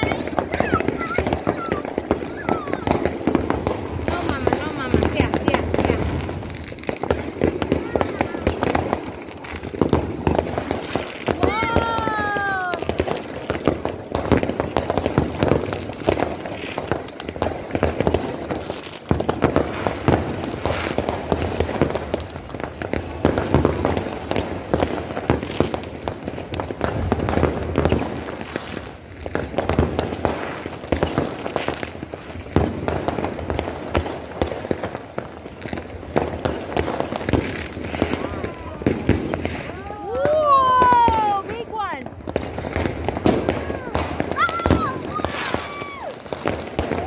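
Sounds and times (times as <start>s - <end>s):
fireworks and firecrackers crackling: 0.0s - 47.0s.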